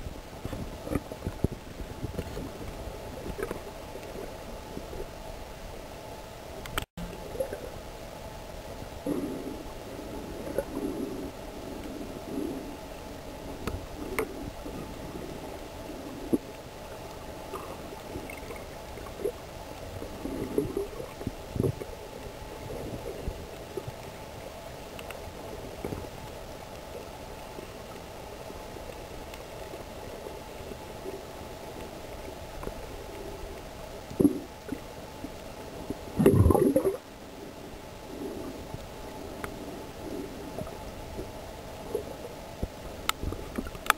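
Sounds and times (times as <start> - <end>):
underwater gurgles and knocks: 0.0 - 5.4, 6.6 - 43.9
underwater hum: 0.0 - 43.9.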